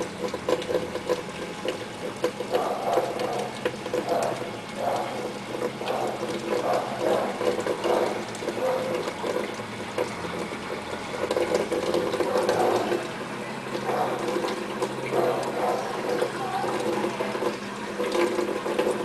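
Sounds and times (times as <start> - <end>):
washing machine motor hum: 0.0 - 19.0
water sloshing in washing machine: 0.0 - 19.0.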